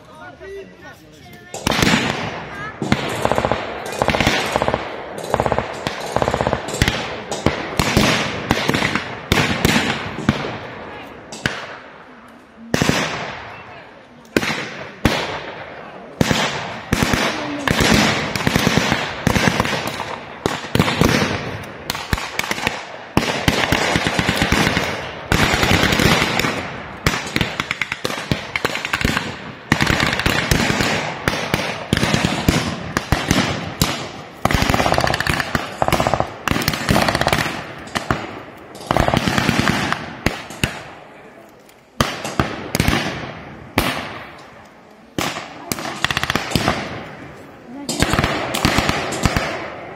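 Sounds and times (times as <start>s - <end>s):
blank gunfire shots and bursts: 1.5s - 41.2s, 41.8s - 49.9s.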